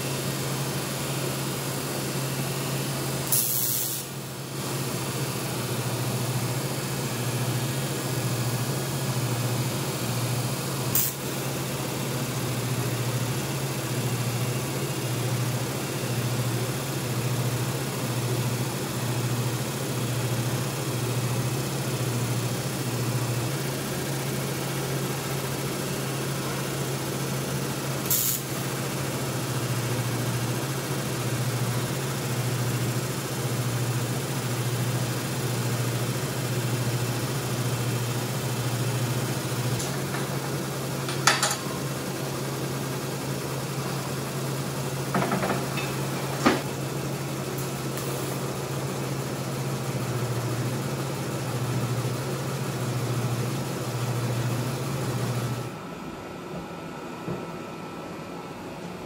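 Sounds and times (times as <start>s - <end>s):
welding arc buzzing: 1.2s - 55.7s.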